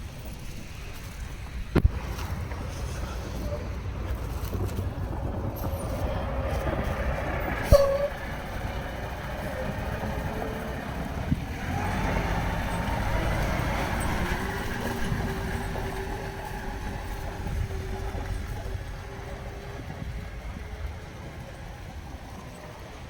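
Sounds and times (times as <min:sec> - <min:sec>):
motor vehicle engine running: 0:00.0 - 0:23.0.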